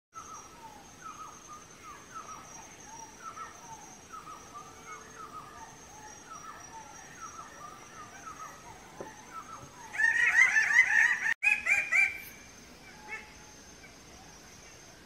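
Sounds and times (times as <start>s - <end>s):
birds calling: 0.2s - 14.8s
high insect drone: 0.2s - 15.0s.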